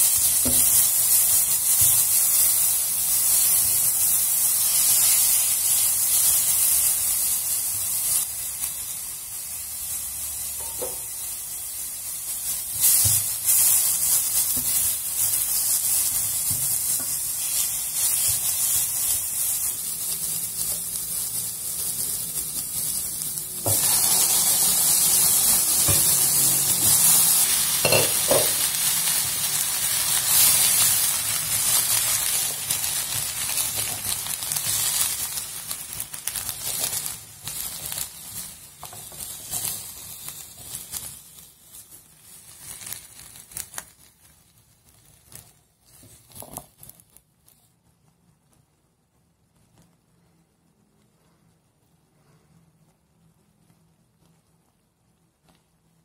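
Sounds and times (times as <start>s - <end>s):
vegetables sizzling in hot oil: 0.0s - 47.6s.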